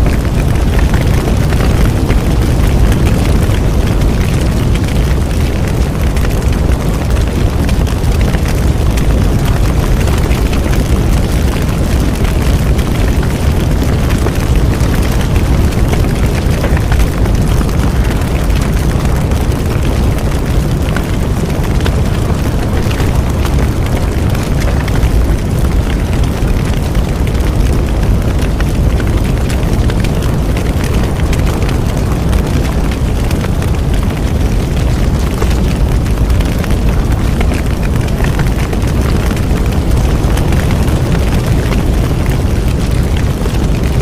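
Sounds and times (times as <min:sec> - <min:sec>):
bonfire low rumble: 0:00.0 - 0:44.0
fire crackling and popping: 0:00.0 - 0:44.0.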